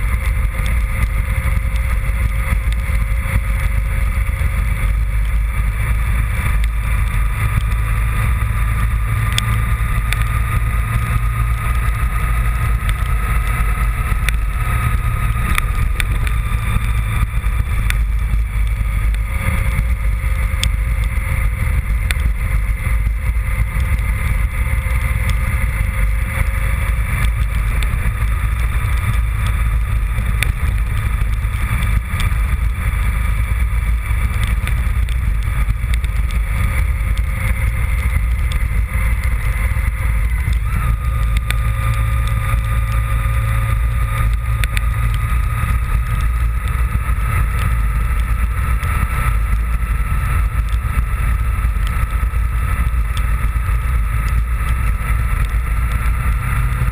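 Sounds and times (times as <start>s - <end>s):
motorcycle engine cruising: 0.0s - 56.9s
wind rush on microphone: 0.0s - 56.9s
light ticks: 0.1s - 5.6s, 6.4s - 56.9s.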